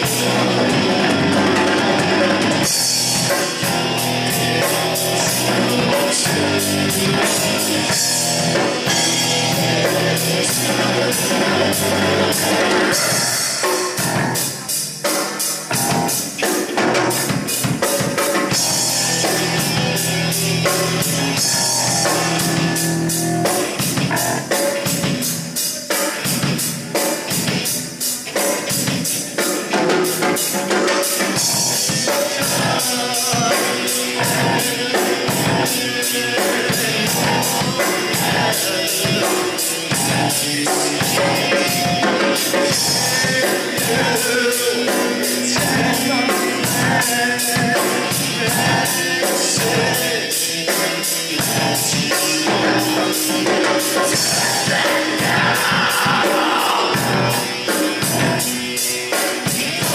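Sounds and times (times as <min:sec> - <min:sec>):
drum kit beat: 0:00.0 - 0:59.9
guitar: 0:00.0 - 0:59.9
person singing: 0:00.0 - 0:59.9.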